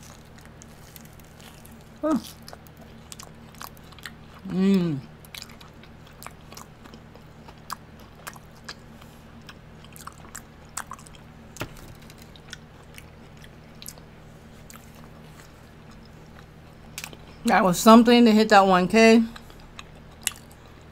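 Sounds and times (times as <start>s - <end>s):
chewing with mouth smacks: 0.0s - 4.5s, 5.2s - 17.4s, 19.3s - 20.9s
steady low hum: 0.0s - 20.9s.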